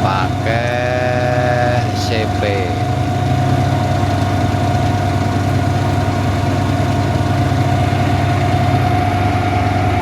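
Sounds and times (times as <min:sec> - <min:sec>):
diesel engine hum: 0:00.0 - 0:10.0
high whine: 0:00.0 - 0:10.0.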